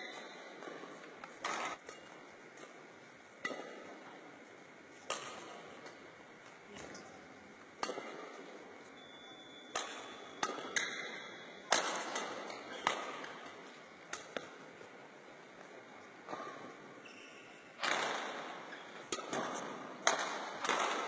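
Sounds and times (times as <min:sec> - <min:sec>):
rackets hitting shuttlecock: 0:00.1 - 0:06.1, 0:07.8 - 0:17.2, 0:17.8 - 0:21.0.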